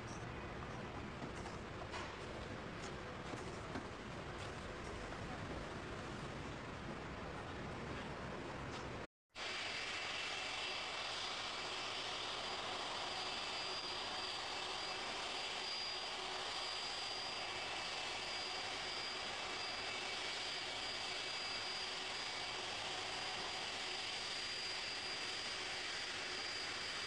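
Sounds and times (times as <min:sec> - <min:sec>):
jet engines rushing and whining: 0:00.0 - 0:27.0.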